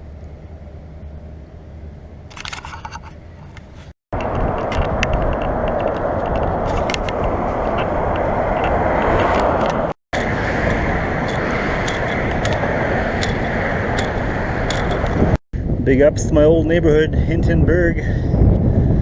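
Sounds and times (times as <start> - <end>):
outdoor rushing noise: 0.0 - 19.0.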